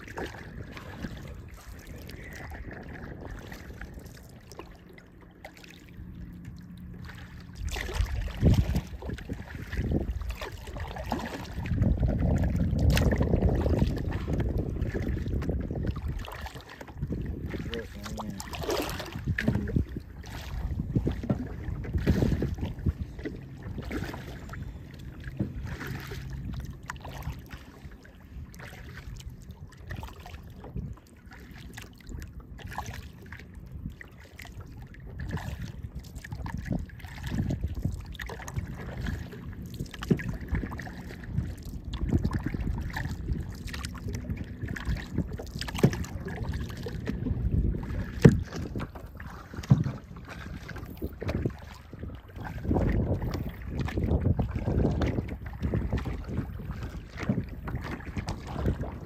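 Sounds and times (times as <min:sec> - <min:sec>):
wind rumble on microphone: 0:00.0 - 0:05.2, 0:05.8 - 0:59.0
paddle splashing: 0:00.0 - 0:59.0
water slapping hull: 0:00.0 - 0:59.0.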